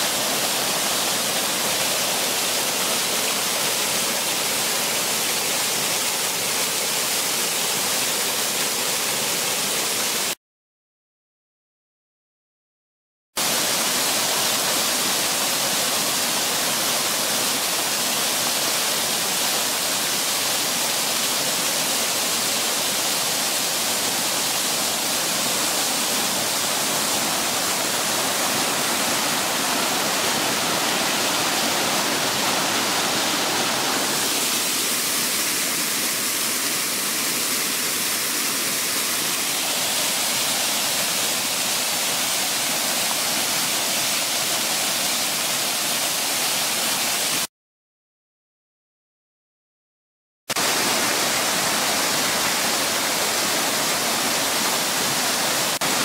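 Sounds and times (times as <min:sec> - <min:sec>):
fountain water splashing: 0:00.0 - 0:10.4, 0:13.4 - 0:47.5, 0:50.5 - 0:56.0.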